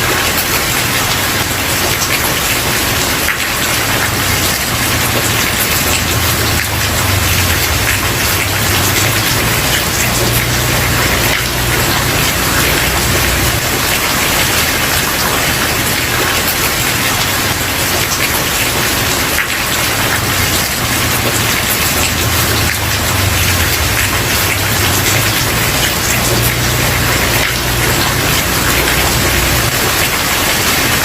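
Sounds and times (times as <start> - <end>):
rain on a wooden porch: 0.0 - 31.0.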